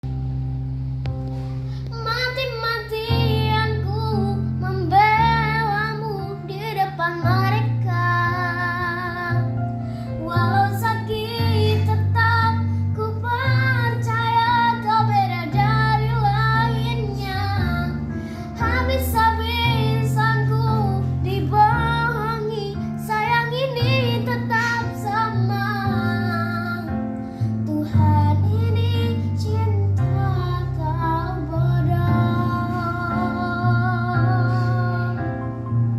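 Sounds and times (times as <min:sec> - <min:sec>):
child singing: 0:01.9 - 0:09.5, 0:10.2 - 0:18.0, 0:18.6 - 0:27.0, 0:27.6 - 0:35.4.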